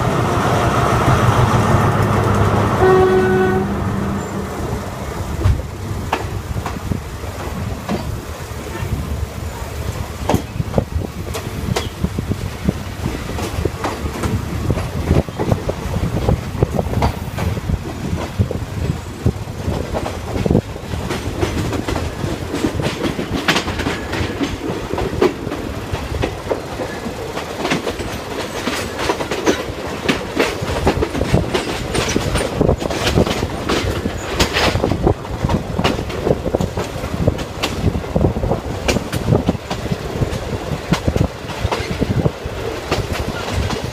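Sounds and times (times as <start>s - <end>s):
train running rumble: 0.0s - 43.9s
wheels clattering over rail joints: 0.0s - 43.9s.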